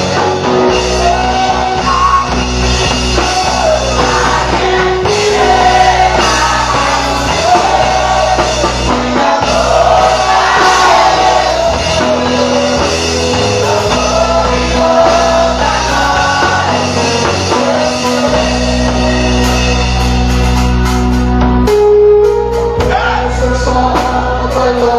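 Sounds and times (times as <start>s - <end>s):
people singing: 0.0s - 20.5s, 22.8s - 24.9s
instrumental accompaniment: 0.0s - 24.9s.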